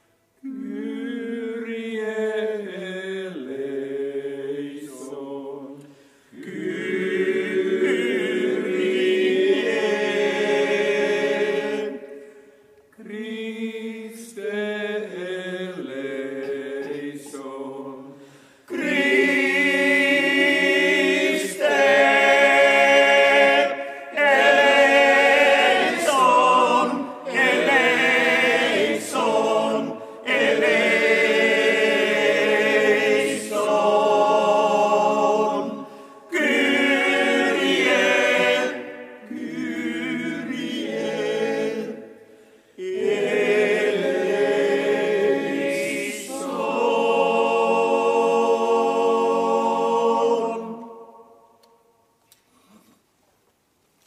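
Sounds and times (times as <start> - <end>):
male voice choir singing: 0.4 - 5.8, 6.4 - 12.1, 13.0 - 42.1, 42.8 - 51.1.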